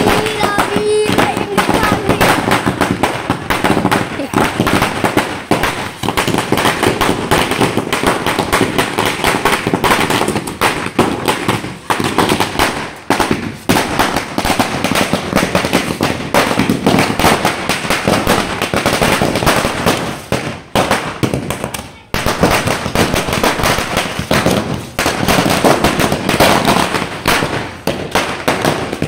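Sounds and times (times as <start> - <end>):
firecrackers banging: 0.0 - 29.0.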